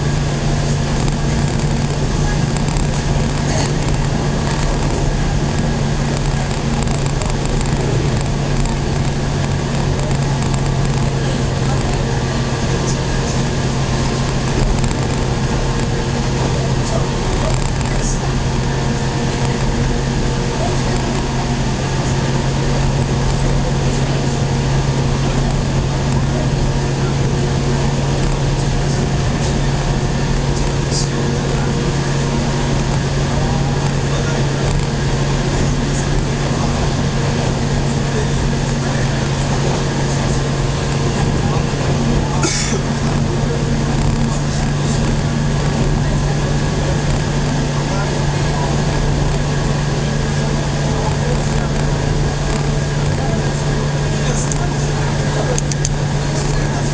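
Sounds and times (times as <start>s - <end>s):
constant low hum: 0.0s - 56.9s
train wheels rumbling on rail: 0.0s - 56.9s.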